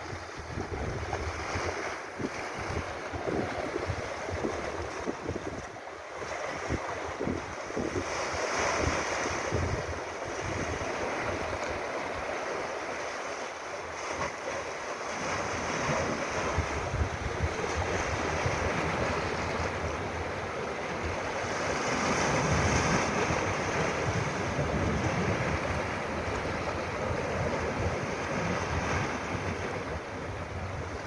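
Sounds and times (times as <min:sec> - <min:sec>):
wind rumbling on microphone: 0:00.0 - 0:12.5, 0:15.1 - 0:31.0
waves splashing against rocks: 0:00.0 - 0:31.0.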